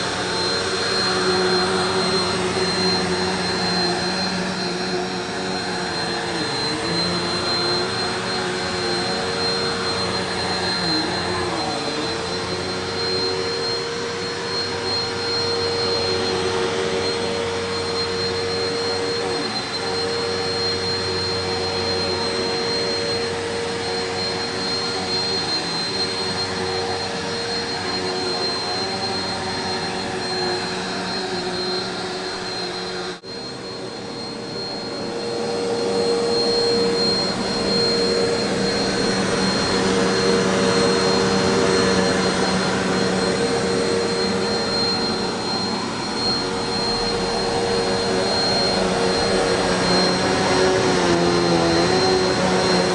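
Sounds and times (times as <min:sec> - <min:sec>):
upright vacuum cleaner running: 0:00.0 - 0:52.9.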